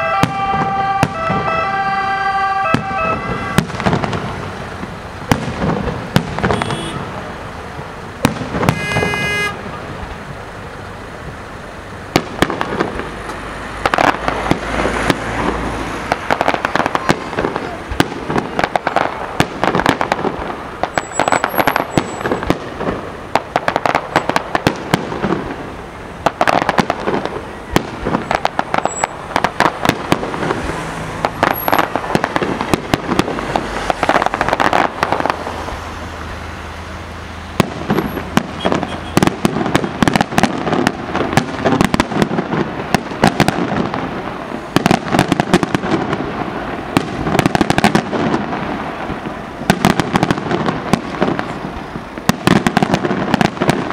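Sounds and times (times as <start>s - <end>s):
fireworks bursts and cracks: 0.0s - 10.4s, 12.0s - 53.9s.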